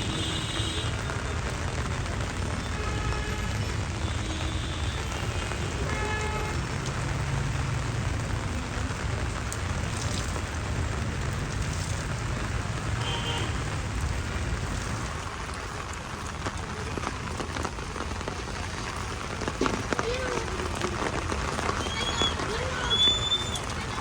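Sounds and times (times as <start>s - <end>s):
heavy rain on street: 0.0s - 24.0s
road traffic rumble: 0.0s - 24.0s.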